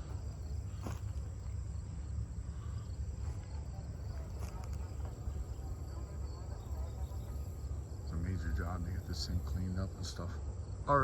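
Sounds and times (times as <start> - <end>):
constant low rumble: 0.0 - 11.0
crickets trilling: 0.0 - 11.0.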